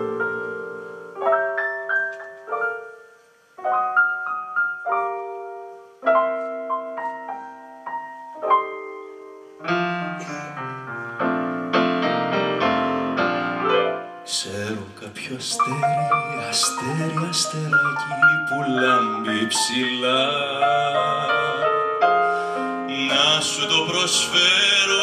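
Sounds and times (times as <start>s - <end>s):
slow piano music: 0.0s - 25.0s.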